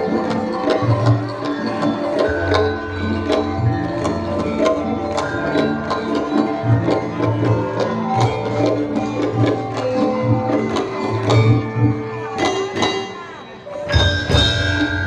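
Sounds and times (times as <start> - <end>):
gamelan music over loudspeakers: 0.0 - 15.0.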